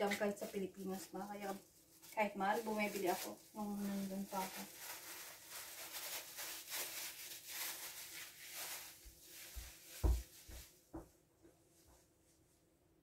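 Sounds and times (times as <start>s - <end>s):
soft rubbing strokes: 0.0s - 10.8s.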